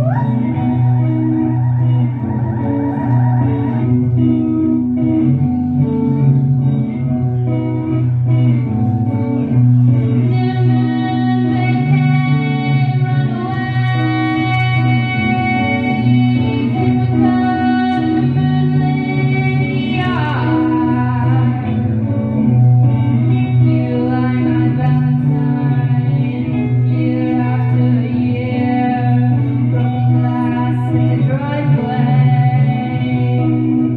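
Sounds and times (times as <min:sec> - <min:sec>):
person singing: 0:00.0 - 0:04.8, 0:09.1 - 0:33.9
guitar playing melody: 0:00.0 - 0:33.9.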